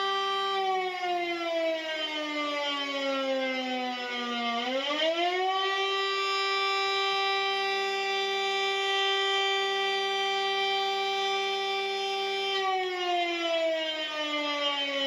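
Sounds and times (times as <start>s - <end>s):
siren sliding in pitch: 0.0s - 15.0s.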